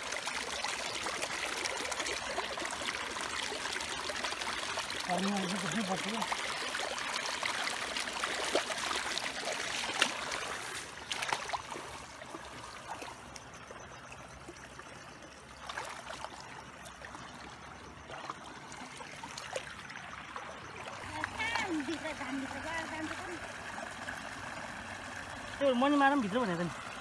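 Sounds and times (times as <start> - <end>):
small splashes: 0.0 - 14.8, 15.4 - 25.6
shallow water trickling: 0.0 - 27.0.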